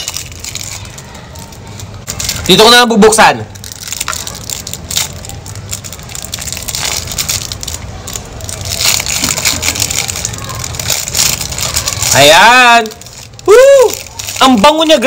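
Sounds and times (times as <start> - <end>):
plastic wrapper crinkling: 0.0 - 15.0.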